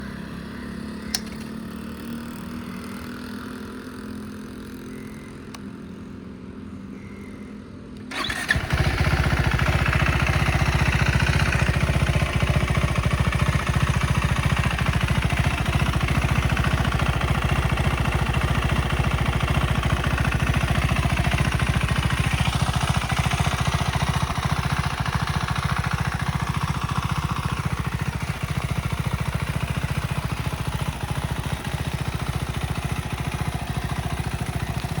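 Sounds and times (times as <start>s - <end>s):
motorcycle engine starting and running: 0.0s - 6.4s, 7.9s - 35.0s.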